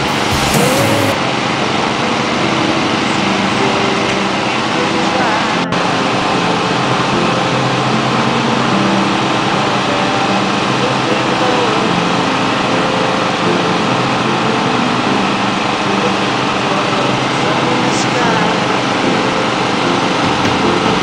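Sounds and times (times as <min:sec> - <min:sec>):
faint voices: 0:00.0 - 0:07.3, 0:08.3 - 0:21.0.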